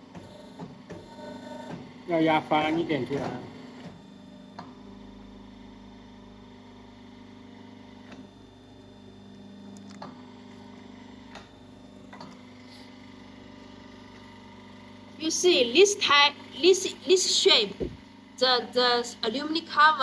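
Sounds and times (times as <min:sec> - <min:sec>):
crimping press humming: 0:00.0 - 0:20.0.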